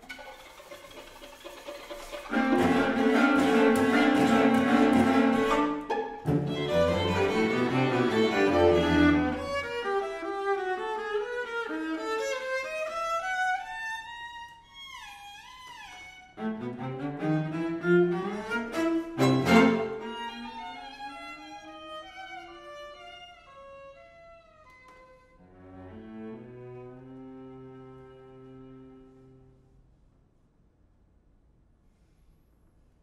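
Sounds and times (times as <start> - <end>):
string quartet playing: 0.0 - 29.5.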